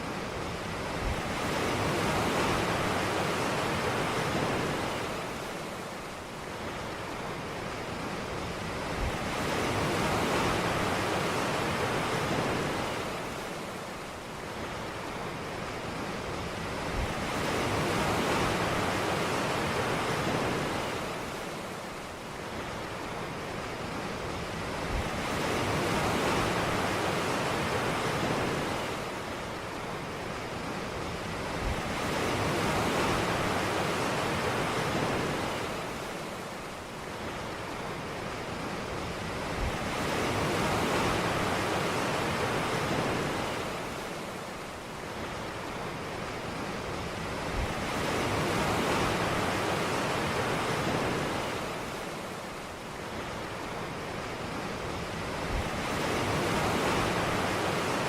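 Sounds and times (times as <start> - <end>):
ocean waves on a beach: 0.0 - 58.0.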